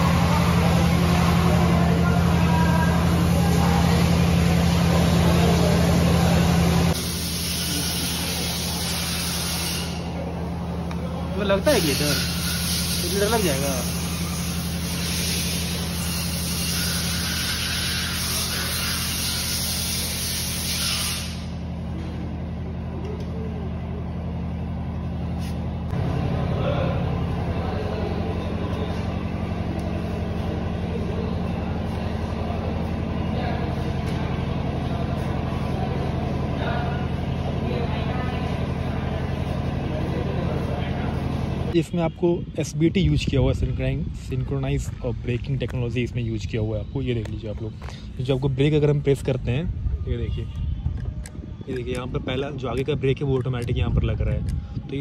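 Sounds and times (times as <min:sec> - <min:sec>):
low hum of machinery: 0:00.0 - 0:55.0.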